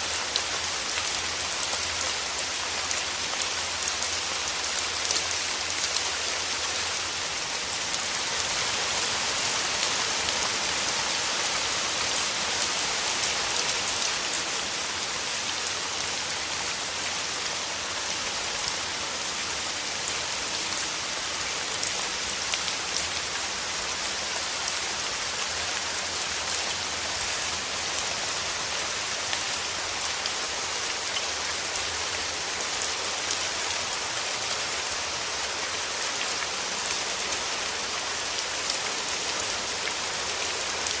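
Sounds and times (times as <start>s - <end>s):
rain falling through foliage: 0.0s - 41.0s.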